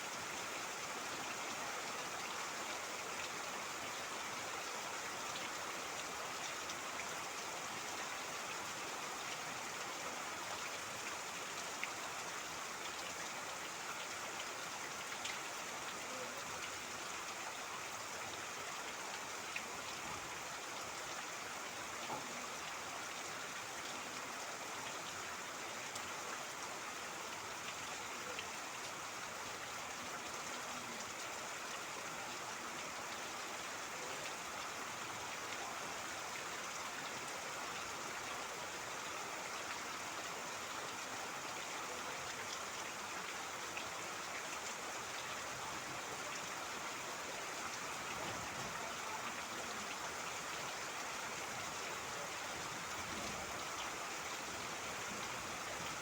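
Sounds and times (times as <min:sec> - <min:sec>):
steady rain falling: 0:00.0 - 0:56.0
trickling water: 0:00.2 - 0:56.0.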